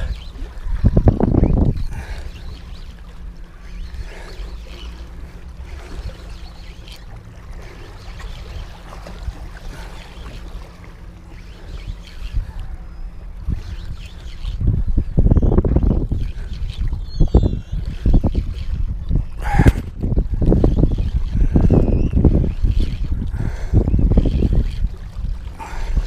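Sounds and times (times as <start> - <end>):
fishing boat engine rumble: 0.0 - 26.0
water splashing against hull: 0.0 - 26.0.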